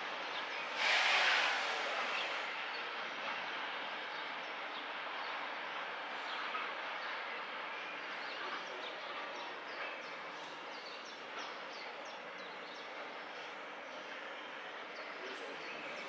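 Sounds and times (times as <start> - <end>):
distant train rumbling: 0.0 - 16.0.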